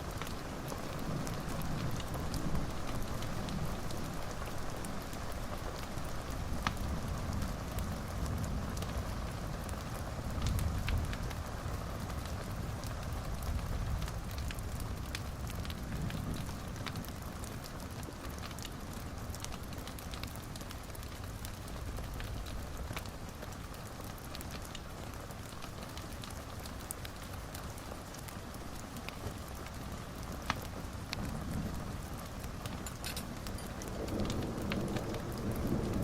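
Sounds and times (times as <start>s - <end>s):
fire burning in a fireplace: 0.0s - 36.0s
fire crackling and popping: 0.0s - 36.0s.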